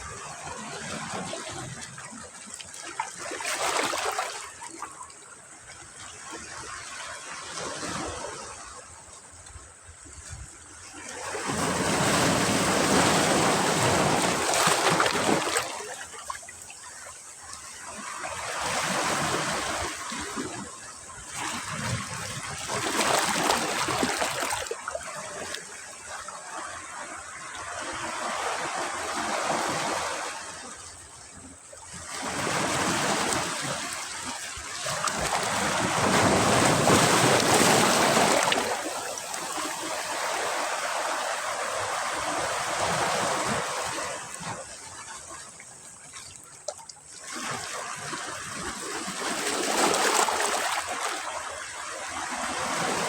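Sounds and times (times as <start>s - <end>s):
sea waves breaking on beach: 0.0s - 9.2s, 10.0s - 53.0s.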